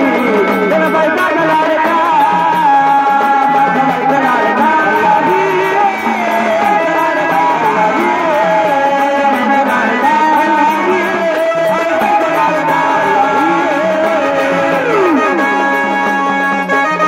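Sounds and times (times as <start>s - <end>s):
instrumental accompaniment: 0.0s - 17.0s
ornamented melody line: 0.0s - 17.0s
percussion: 0.0s - 17.0s.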